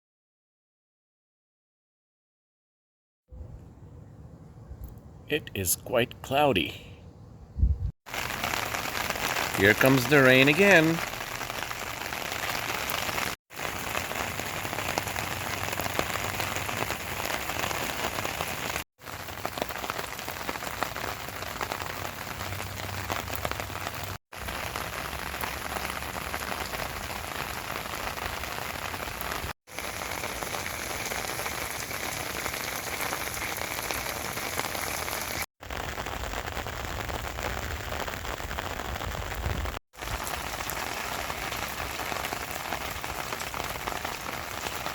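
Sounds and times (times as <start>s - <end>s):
steady rain falling: 8.1s - 44.9s.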